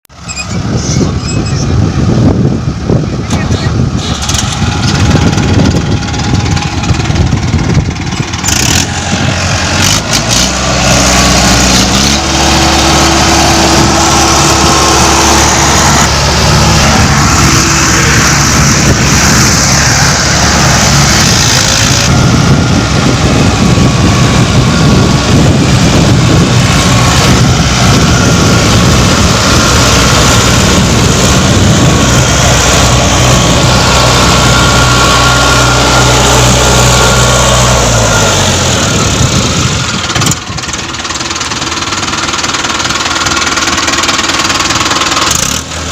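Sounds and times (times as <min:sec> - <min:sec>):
tractor diesel engine revving: 0:00.1 - 0:45.9.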